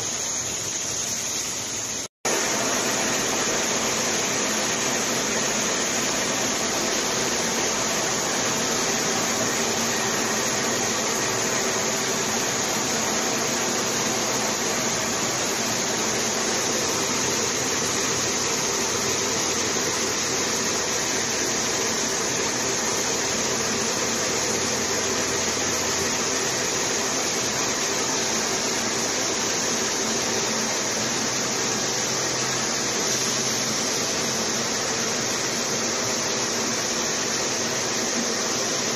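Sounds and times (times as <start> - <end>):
industrial machines running: 2.3 - 38.9.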